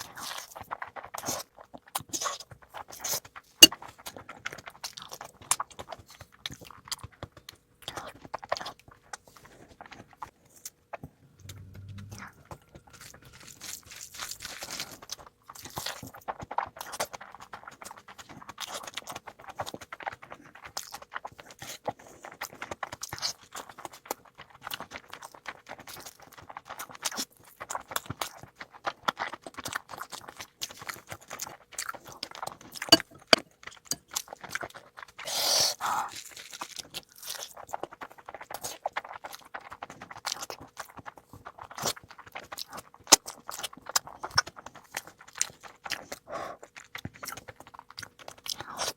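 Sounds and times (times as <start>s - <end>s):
wet chewing: 0.0s - 48.9s.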